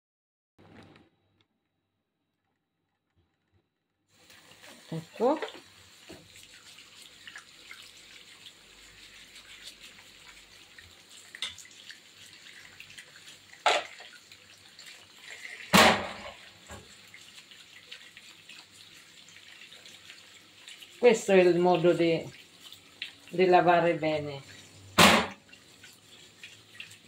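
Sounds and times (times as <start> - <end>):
tap water running into sink: 4.2 - 27.0.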